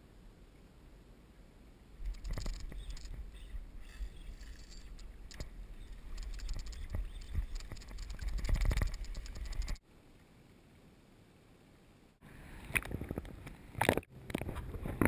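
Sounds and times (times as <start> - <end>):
faint steady hiss: 0.0 - 14.3.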